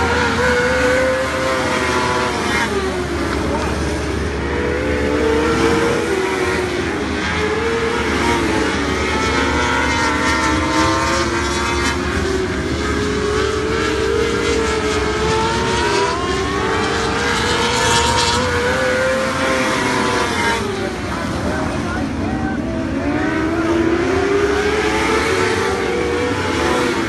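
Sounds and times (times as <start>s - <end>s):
race car engines running hard: 0.0s - 27.0s.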